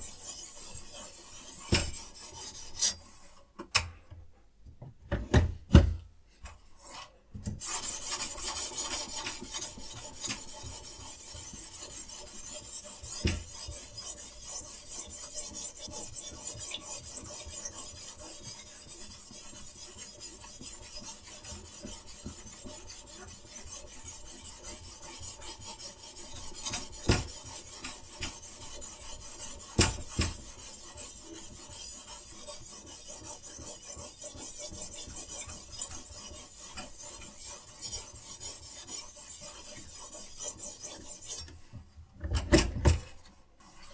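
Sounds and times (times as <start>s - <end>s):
stone grinding along knife blade: 0.0s - 3.1s, 7.6s - 41.5s.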